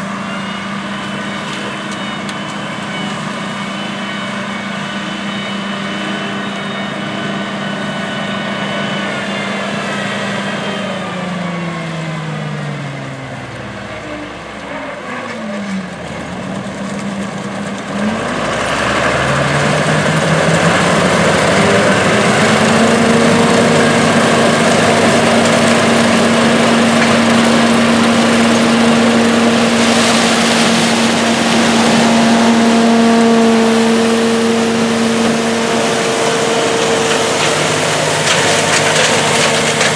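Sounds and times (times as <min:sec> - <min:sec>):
diesel engine running: 0:00.0 - 0:39.9
machinery noise: 0:00.0 - 0:39.9.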